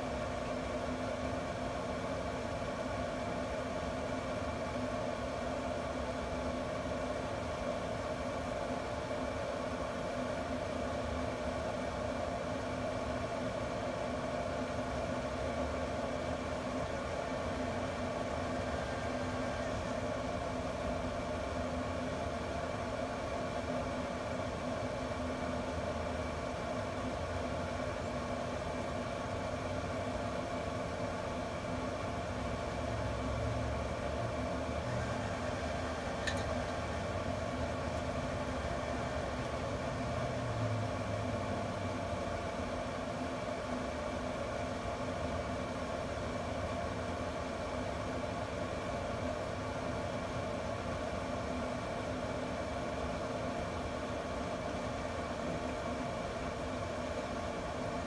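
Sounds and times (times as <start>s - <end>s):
grill fan humming: 0.0s - 58.0s.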